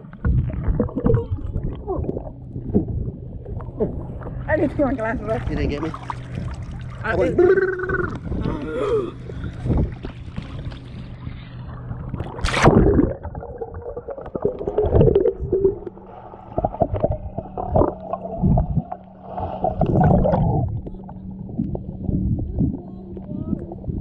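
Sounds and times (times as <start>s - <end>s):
water splashing: 0.0s - 23.4s
low steady hum: 0.0s - 24.0s
underwater water sloshing: 0.0s - 24.0s.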